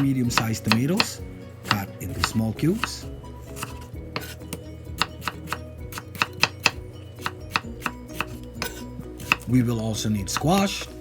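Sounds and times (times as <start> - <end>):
knife chopping on board: 0.0 - 4.4, 5.0 - 9.5, 10.3 - 10.9.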